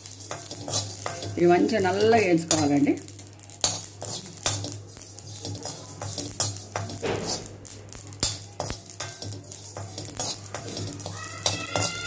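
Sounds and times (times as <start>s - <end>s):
spatula scraping seeds in wok: 0.0s - 12.0s.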